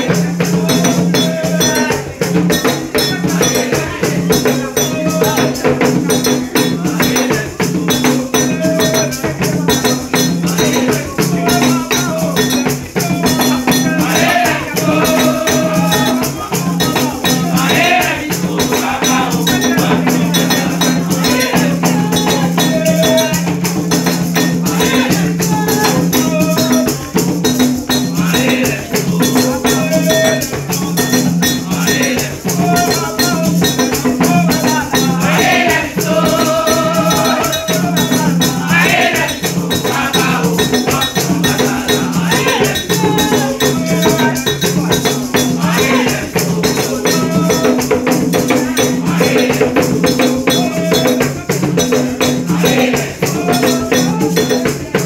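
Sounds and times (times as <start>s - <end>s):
hand drums: 0.0s - 55.0s
shaken rattle: 0.0s - 55.0s
voices singing: 0.0s - 55.0s.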